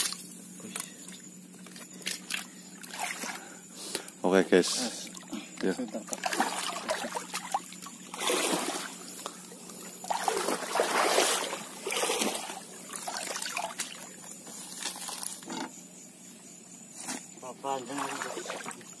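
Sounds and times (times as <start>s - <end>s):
water trickling and splashing: 0.0s - 3.6s, 4.7s - 15.2s, 17.6s - 19.0s.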